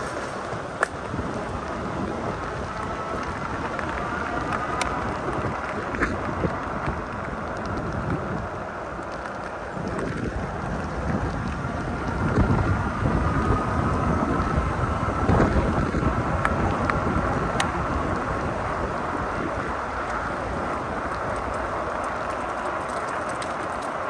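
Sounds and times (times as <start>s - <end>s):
wind noise on microphone: 0.0s - 24.0s.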